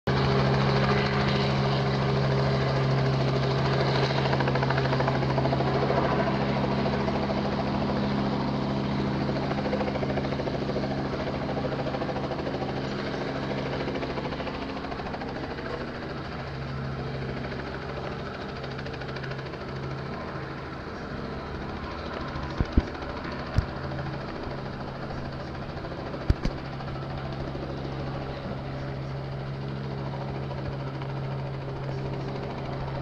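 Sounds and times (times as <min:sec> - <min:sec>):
helicopter flying low: 0:00.1 - 0:33.0.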